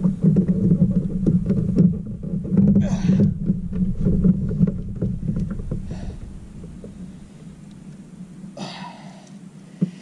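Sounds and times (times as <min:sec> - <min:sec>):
low rumble with small knocks: 0:00.0 - 0:10.0.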